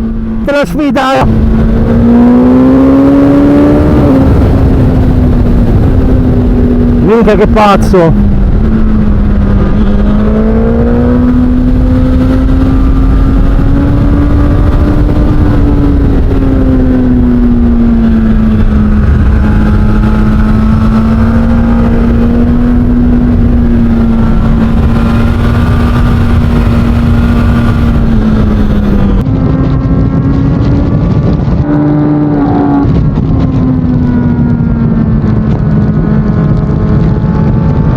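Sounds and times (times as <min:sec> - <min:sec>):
motorcycle engine under throttle: 0:00.0 - 0:37.9.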